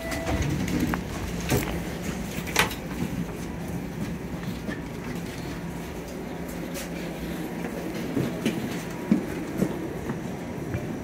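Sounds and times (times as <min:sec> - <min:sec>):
streetcar humming: 0:00.0 - 0:11.0.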